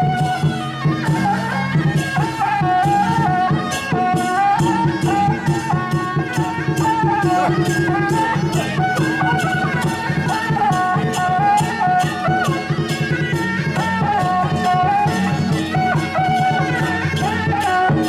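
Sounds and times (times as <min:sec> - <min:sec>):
high folk melody: 0:00.0 - 0:18.0
steady percussion strokes: 0:00.0 - 0:18.0.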